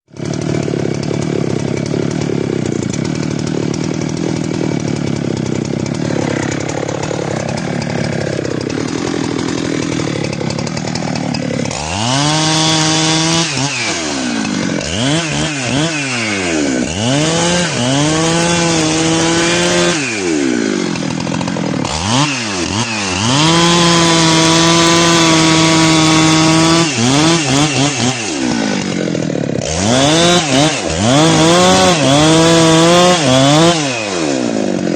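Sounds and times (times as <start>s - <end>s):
chainsaw revving: 0.1s - 34.9s.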